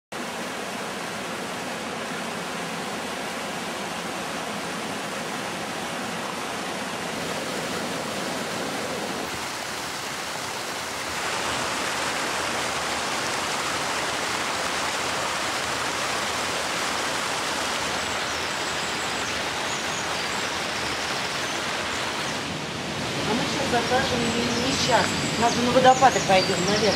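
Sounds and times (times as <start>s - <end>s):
river rushing over rocks: 0.2s - 26.9s.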